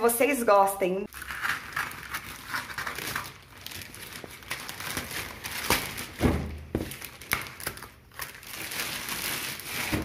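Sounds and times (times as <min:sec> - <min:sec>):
scissors cutting plastic: 0:01.1 - 0:06.2, 0:06.8 - 0:10.0
plastic bag rustling and crinkling: 0:01.1 - 0:10.0.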